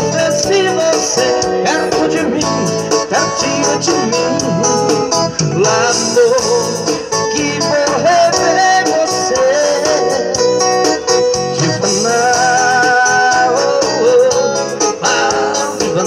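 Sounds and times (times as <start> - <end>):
electronic keyboard rhythmic backing: 0.0 - 16.0
man singing into microphone: 0.0 - 16.0.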